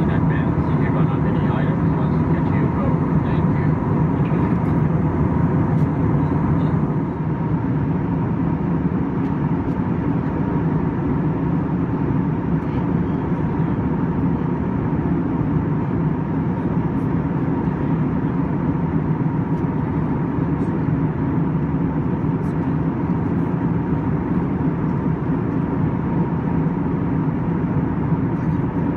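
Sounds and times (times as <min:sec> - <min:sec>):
aircraft cabin drone: 0:00.0 - 0:28.9
faint steady whine: 0:00.0 - 0:28.9.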